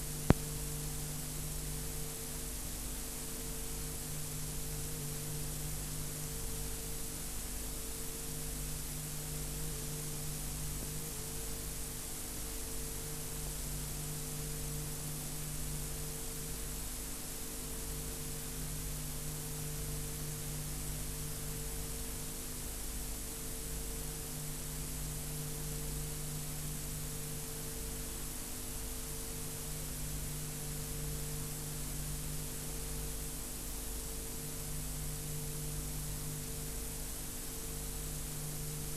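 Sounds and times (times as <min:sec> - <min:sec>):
electrical mains hum: 0:00.0 - 0:38.9
steady hiss: 0:00.0 - 0:38.9.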